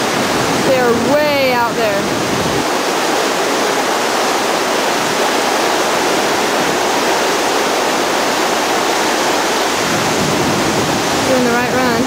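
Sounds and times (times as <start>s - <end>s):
whitewater rapid roaring: 0.0s - 12.0s.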